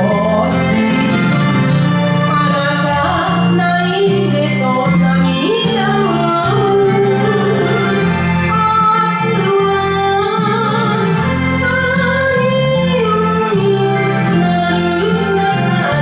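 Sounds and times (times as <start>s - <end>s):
woman singing a slow ballad: 0.0s - 1.2s, 2.3s - 16.0s
karaoke backing track: 0.0s - 16.0s.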